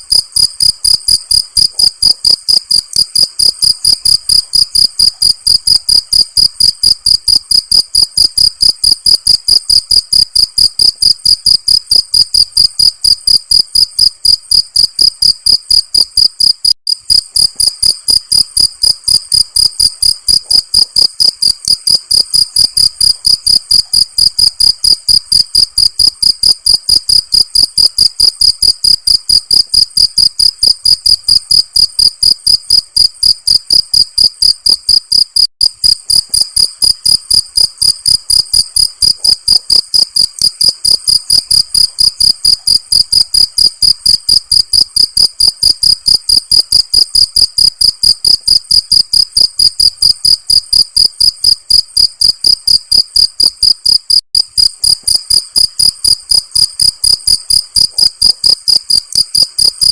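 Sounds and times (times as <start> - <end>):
crickets chirping: 0.1 - 59.8.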